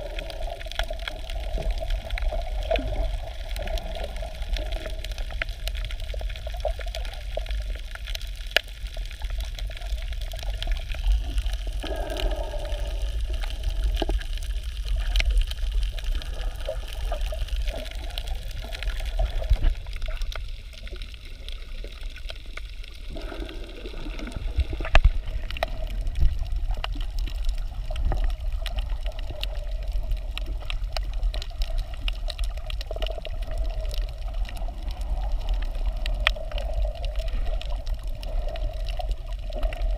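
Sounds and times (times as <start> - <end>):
muffled underwater rumble: 0.0 - 39.9
underwater clicks and crackles: 0.0 - 39.9.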